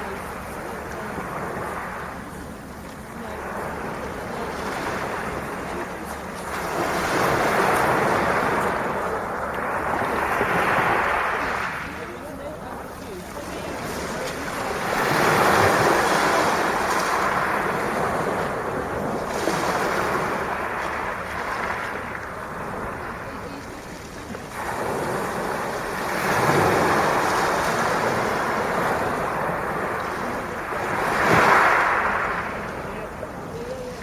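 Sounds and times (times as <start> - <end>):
sea waves breaking on shore: 0.0 - 34.0.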